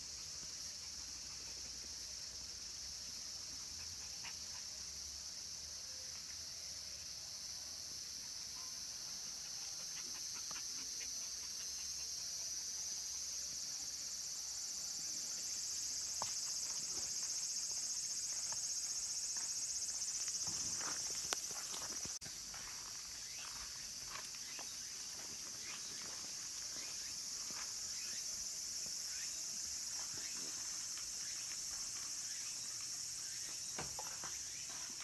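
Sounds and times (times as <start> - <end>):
cicadas chorus: 0.0 - 35.0.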